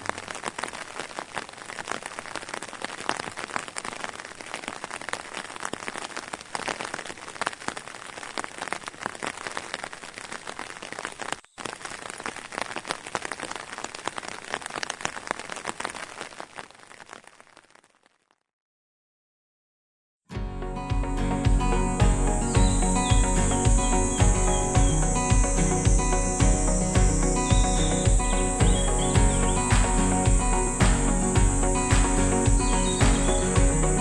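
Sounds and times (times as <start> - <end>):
rain pattering: 0.0 - 18.1, 21.2 - 34.0.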